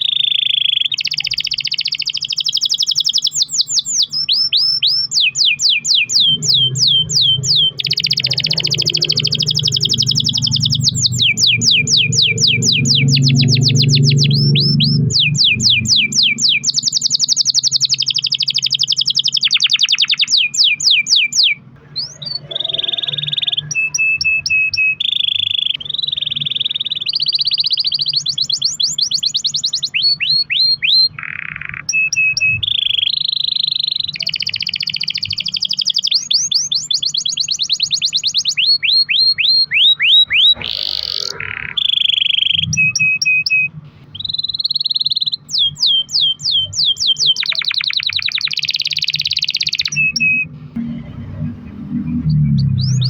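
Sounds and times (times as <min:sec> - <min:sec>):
canary singing trills: 0:00.0 - 0:50.5, 0:51.1 - 0:53.0.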